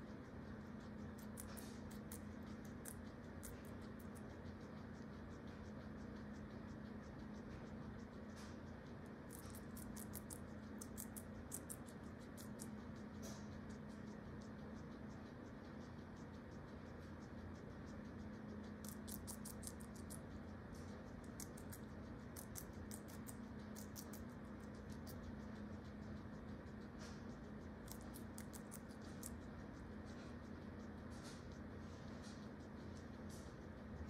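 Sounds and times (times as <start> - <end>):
guinea pig chewing clicks: 0.0 - 34.0
steady low hum: 0.0 - 34.0.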